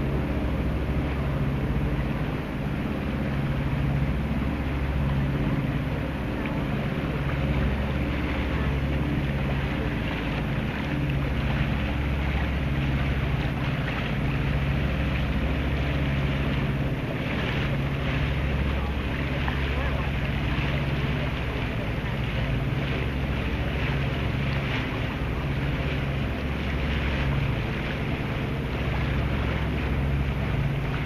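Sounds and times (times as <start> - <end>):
boat engine droning: 0.0 - 31.0
wind: 0.0 - 31.0.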